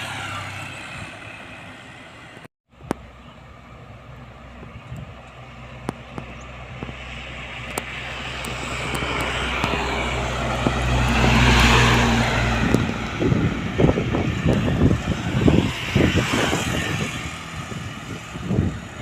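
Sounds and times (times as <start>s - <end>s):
heavy truck passing: 0.0s - 19.0s.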